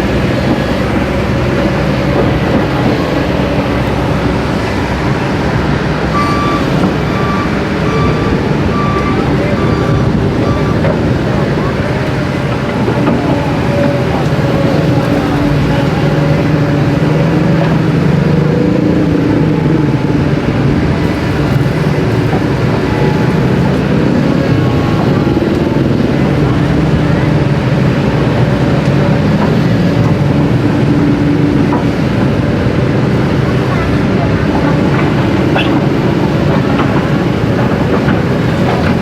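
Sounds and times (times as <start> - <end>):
motor engine running: 0.0 - 39.0.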